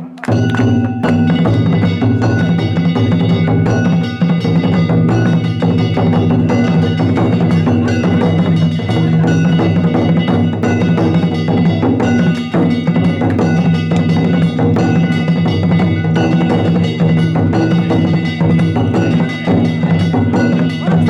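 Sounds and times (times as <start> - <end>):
metal gongs ringing: 0.0 - 21.0
taiko drums beating: 0.0 - 21.0.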